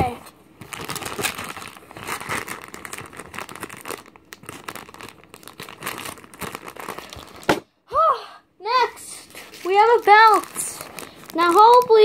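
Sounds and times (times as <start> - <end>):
packaging crinkling and tearing: 0.5 - 7.6, 9.1 - 12.0.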